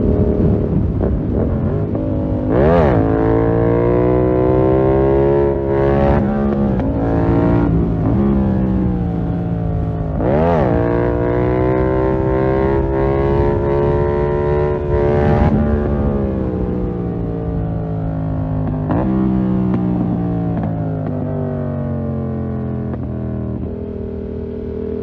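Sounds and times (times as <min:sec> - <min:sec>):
motorcycle engine under throttle: 0:00.0 - 0:25.0.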